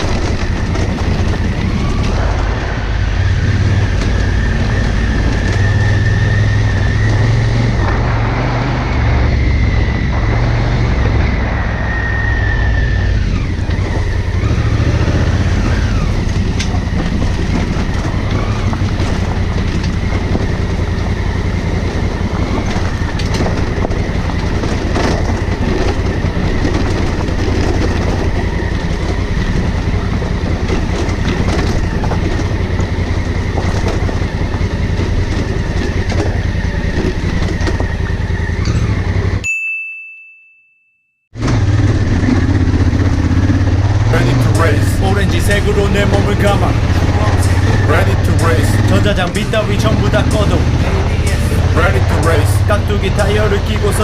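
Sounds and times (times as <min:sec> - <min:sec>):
motorcycle engine running: 0:00.0 - 0:39.4, 0:41.4 - 0:54.0
road and wind noise: 0:00.0 - 0:39.5, 0:41.4 - 0:54.0.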